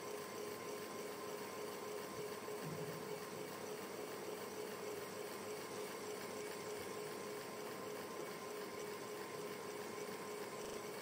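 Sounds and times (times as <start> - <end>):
fan motor hum: 0.0 - 11.0.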